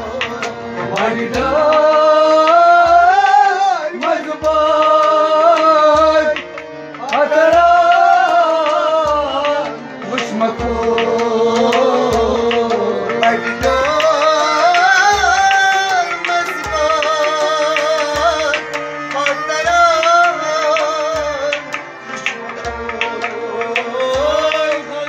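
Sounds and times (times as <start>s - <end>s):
harmonium sustained notes: 0.0s - 25.0s
man singing devotional song: 0.0s - 25.0s.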